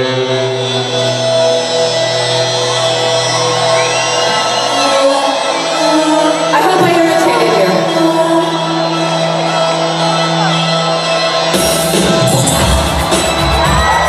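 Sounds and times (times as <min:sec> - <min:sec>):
live concert music: 0:00.0 - 0:14.0
audience shouting and whooping: 0:02.1 - 0:14.0.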